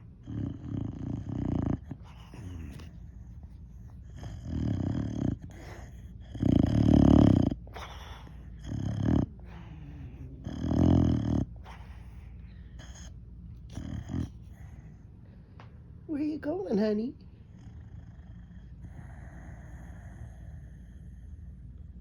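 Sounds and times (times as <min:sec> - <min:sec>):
dog snoring: 0:00.0 - 0:15.0, 0:17.4 - 0:22.0.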